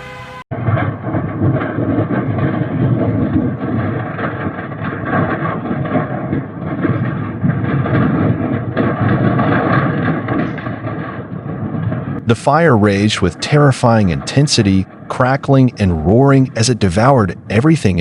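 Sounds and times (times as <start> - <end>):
large fire rumbling and crackling: 0.5 - 18.0.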